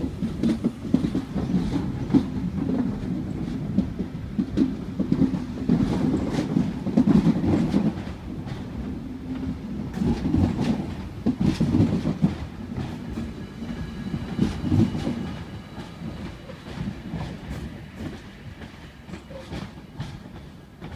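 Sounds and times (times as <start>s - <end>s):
electric train departing: 0.0s - 20.9s
train wheels clacking over rail joints: 0.0s - 20.9s.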